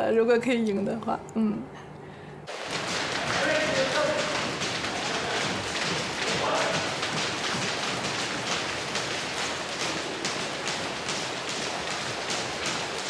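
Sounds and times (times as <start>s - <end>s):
skipping ropes slapping floor: 2.5s - 13.0s.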